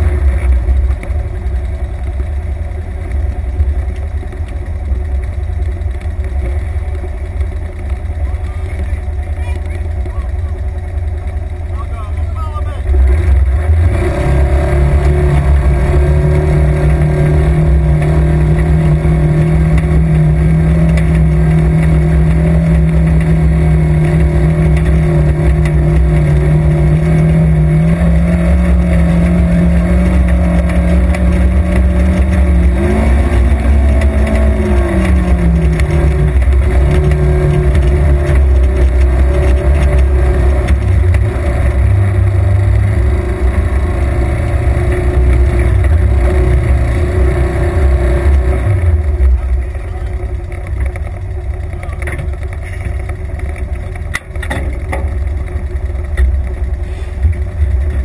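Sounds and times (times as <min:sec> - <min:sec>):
low rumble: 0:00.0 - 0:58.0
vehicle engine running: 0:00.0 - 0:58.0.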